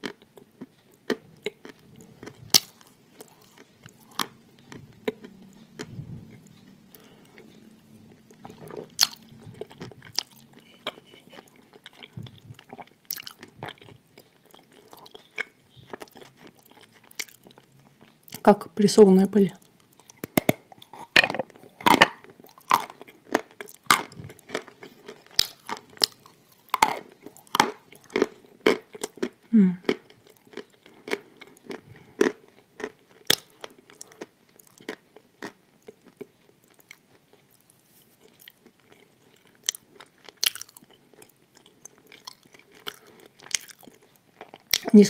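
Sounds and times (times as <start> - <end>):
crunching and chewing hard tile: 0.0 - 18.4, 19.6 - 45.0.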